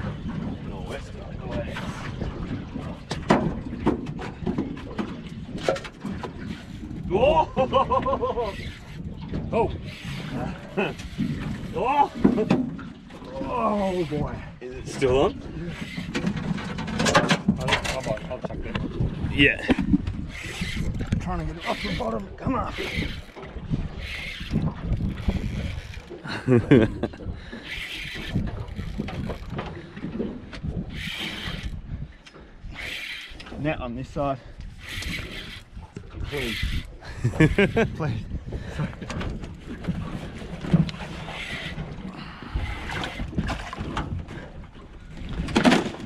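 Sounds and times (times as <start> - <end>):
water lapping against boat hull: 0.0 - 46.0
wind rumbling on microphone: 0.0 - 46.0.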